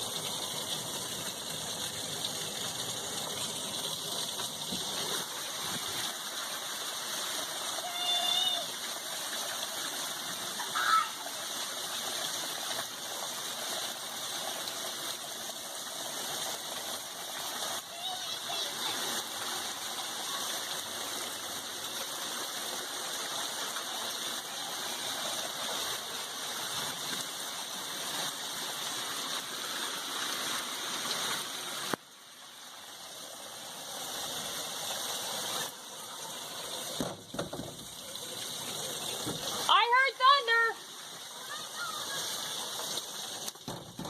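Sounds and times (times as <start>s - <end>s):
pouring water from downpour: 0.0s - 44.0s.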